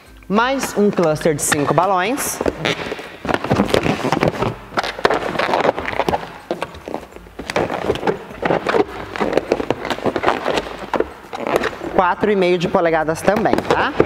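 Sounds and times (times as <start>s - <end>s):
balloons rubbing and squeaking: 0.6s - 14.0s.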